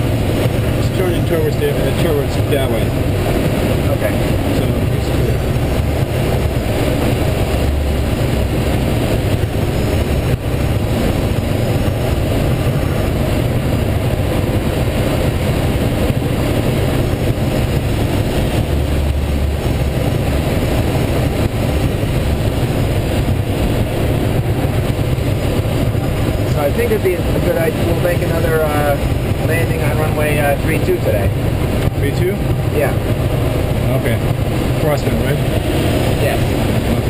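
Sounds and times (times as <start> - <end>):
rush of air around cockpit: 0.0 - 37.0
wind buffeting microphone: 0.0 - 37.0.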